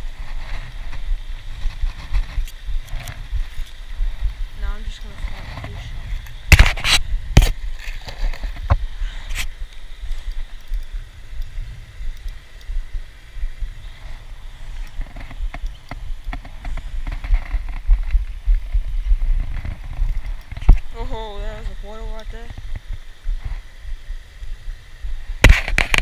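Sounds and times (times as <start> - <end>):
low rumble of handling noise: 0.0 - 26.0.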